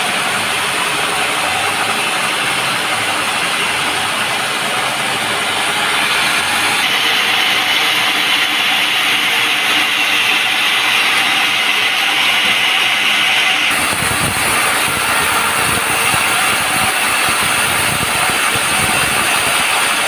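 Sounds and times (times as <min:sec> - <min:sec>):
sawmill saw cutting log: 0:00.0 - 0:20.0.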